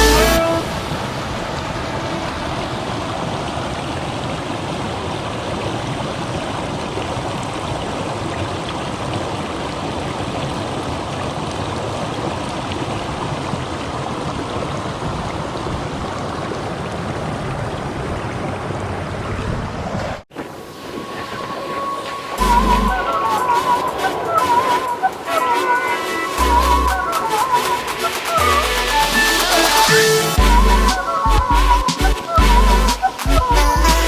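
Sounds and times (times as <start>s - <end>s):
creek water rushing: 0.0s - 18.8s, 20.3s - 34.0s.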